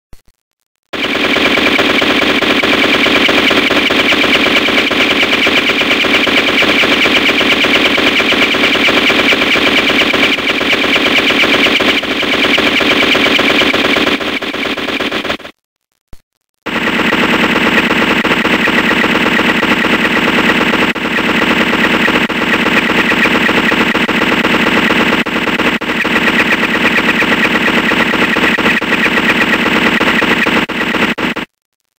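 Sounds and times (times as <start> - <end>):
rapid automatic gunfire: 1.0 - 15.6, 16.7 - 31.5.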